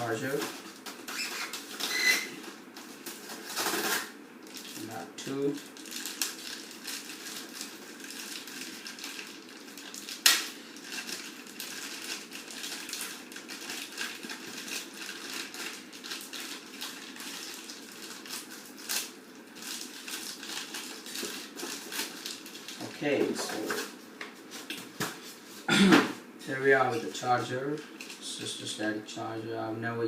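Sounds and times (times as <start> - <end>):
packaging rustling and crinkling: 0.0 - 25.6, 26.8 - 28.3.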